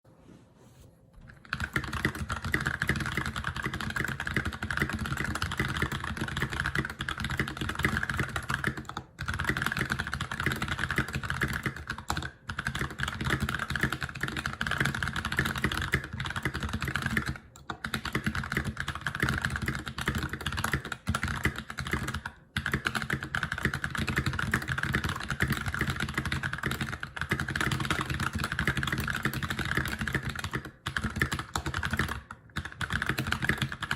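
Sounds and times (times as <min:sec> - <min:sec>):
mechanical keyboard typing: 0:01.2 - 0:33.9.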